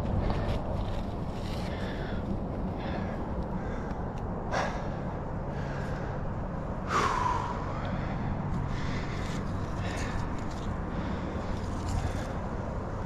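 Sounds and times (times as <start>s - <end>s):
person breathing under exertion: 0.1s - 13.0s.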